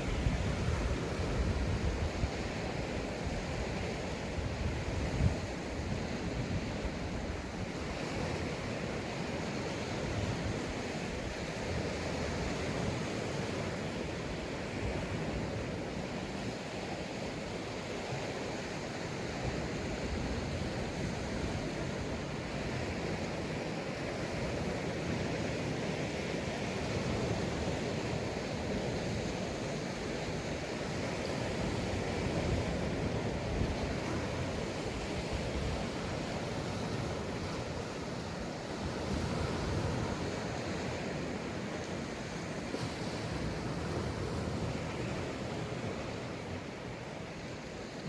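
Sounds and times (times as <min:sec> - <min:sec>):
sea waves washing up beach: 0:00.0 - 0:48.0
wind on microphone: 0:00.0 - 0:48.0.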